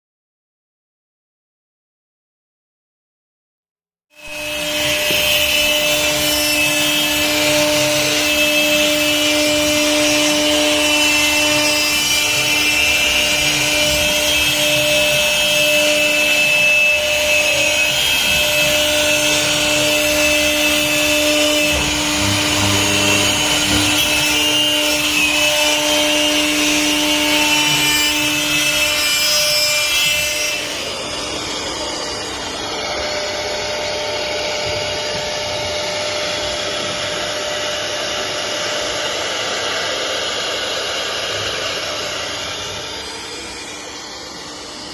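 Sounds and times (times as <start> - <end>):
router cutting wood: 4.2 - 44.9
spindle whir: 4.3 - 44.9.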